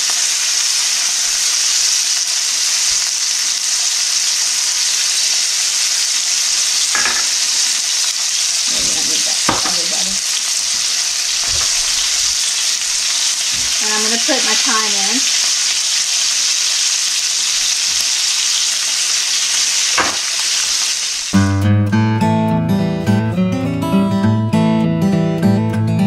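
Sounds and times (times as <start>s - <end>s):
steaks sizzling in a skillet: 0.0s - 21.4s.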